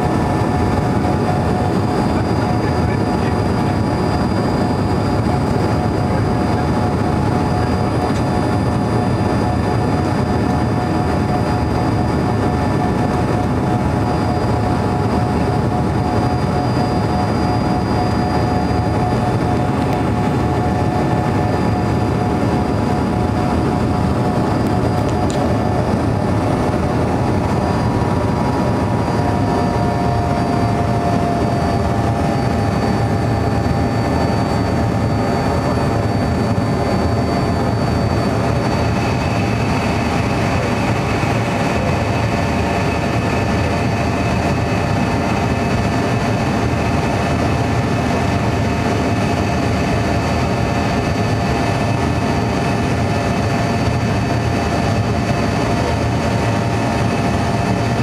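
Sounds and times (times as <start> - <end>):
jet engines roaring in cabin: 0.0 - 58.0
steady whining tones: 0.0 - 58.0.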